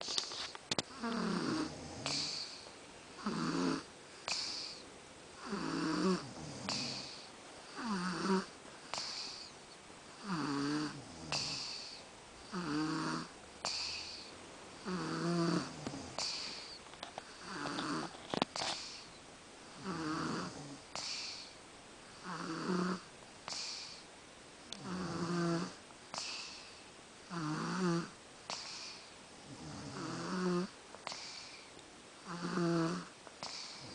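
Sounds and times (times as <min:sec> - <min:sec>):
person snoring: 0:00.9 - 0:02.6, 0:03.2 - 0:04.8, 0:05.4 - 0:09.5, 0:10.2 - 0:19.1, 0:19.7 - 0:21.5, 0:22.2 - 0:24.0, 0:24.7 - 0:26.7, 0:27.3 - 0:31.6, 0:32.2 - 0:33.9.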